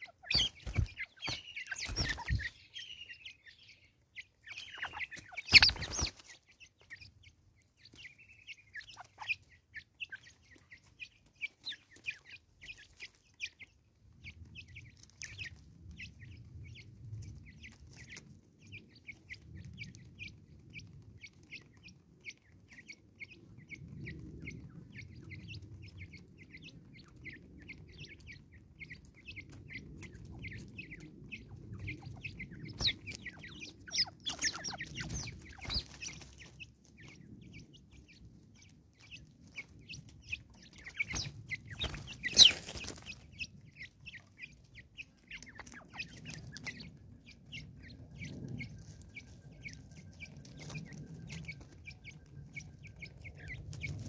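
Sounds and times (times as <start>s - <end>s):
birds clucking softly: 0.0s - 54.0s.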